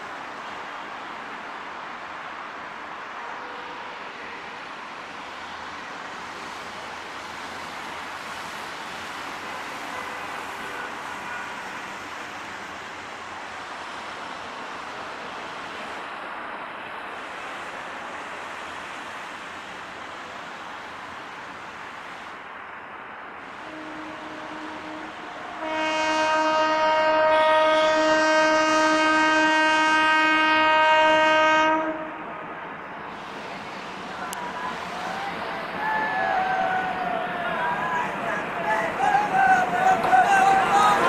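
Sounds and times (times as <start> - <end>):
diesel locomotive rumbling: 0.0 - 41.0.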